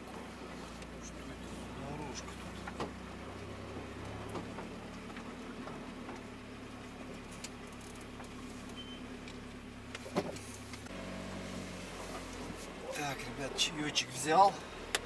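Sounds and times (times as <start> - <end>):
van engine low hum: 0.0 - 15.0.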